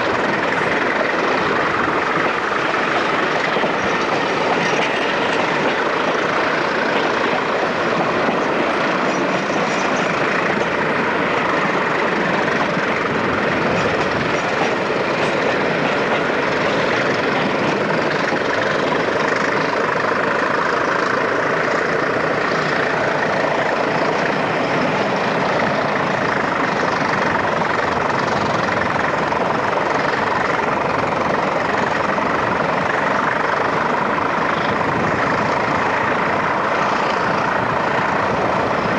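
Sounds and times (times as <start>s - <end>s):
diesel locomotive engines: 0.0s - 38.9s
train wheels on rails: 0.0s - 38.9s.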